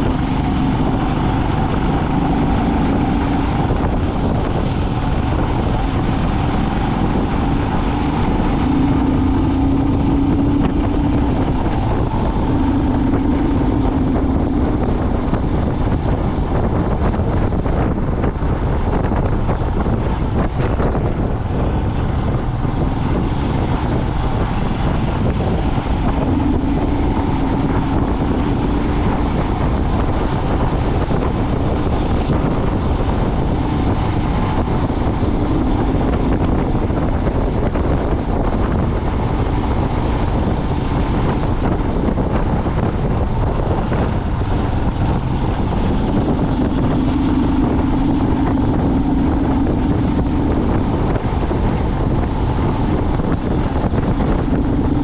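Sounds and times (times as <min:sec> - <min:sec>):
low engine hum: 0:00.0 - 0:55.0
road and wind noise: 0:00.0 - 0:55.0.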